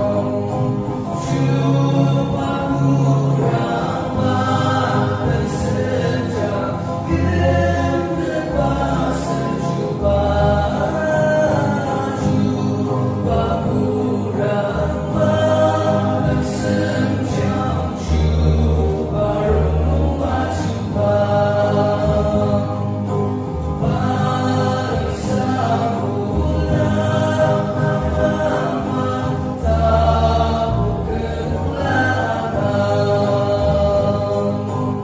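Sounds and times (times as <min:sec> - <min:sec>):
choir singing a hymn: 0:00.0 - 0:35.0
low bass notes: 0:00.0 - 0:35.0.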